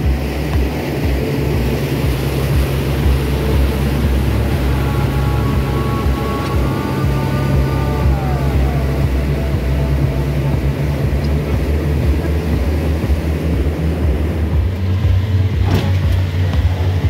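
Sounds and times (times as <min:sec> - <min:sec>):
boat engine droning: 0:00.0 - 0:17.0
water rushing past: 0:00.0 - 0:17.0
wind: 0:00.0 - 0:17.0.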